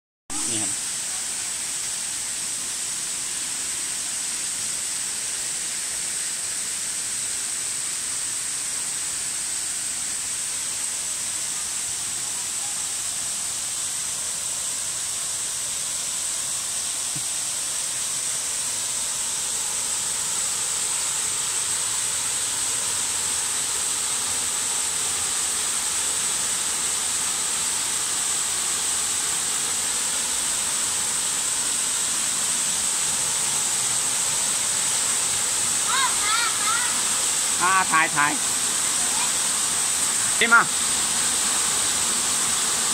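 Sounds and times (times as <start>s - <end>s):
high hiss: 0.3s - 42.9s
waterfall rushing: 0.3s - 42.9s.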